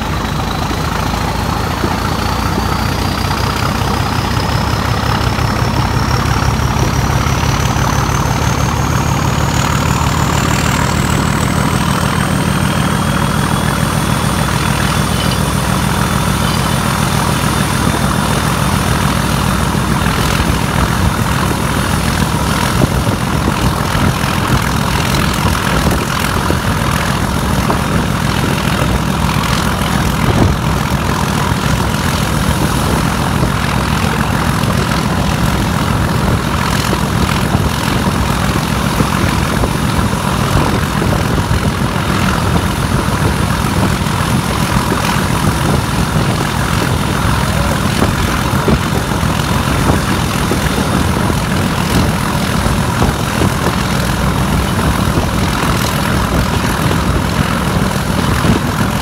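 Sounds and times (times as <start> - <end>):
diesel locomotive engine rumble: 0.0 - 59.0
high engine whine: 0.0 - 59.0.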